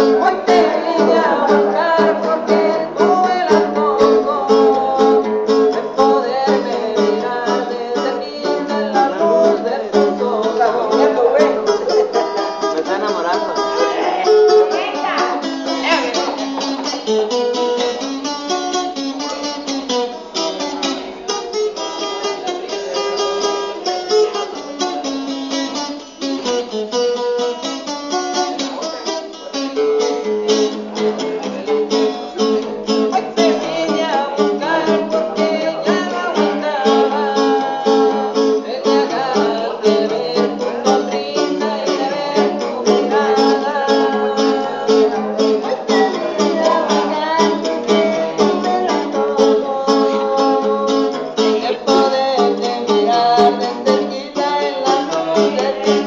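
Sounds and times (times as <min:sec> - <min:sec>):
acoustic guitar picking: 0:00.0 - 0:56.0.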